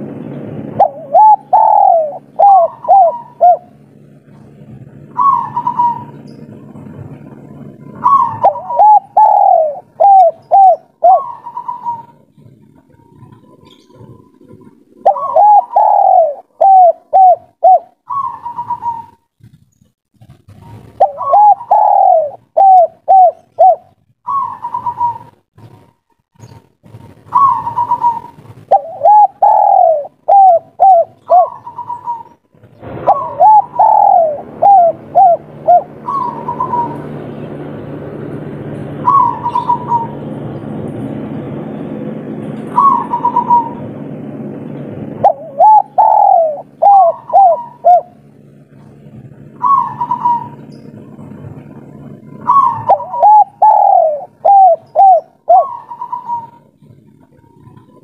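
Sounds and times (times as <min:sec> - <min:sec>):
steady low hum: 0:00.0 - 0:58.0
dove cooing: 0:00.7 - 0:19.6, 0:20.5 - 0:25.8, 0:26.5 - 0:58.0.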